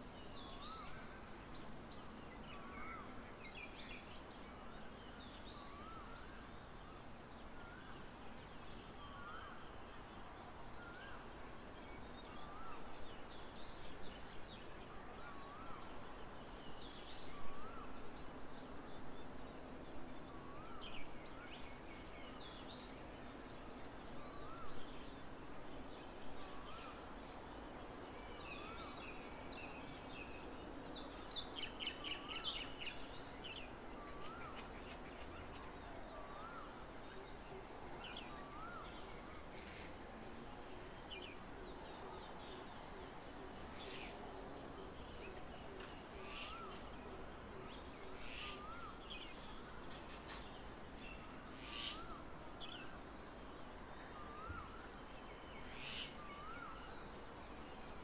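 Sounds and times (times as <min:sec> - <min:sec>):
birds chirping and twittering: 0:00.0 - 0:58.0.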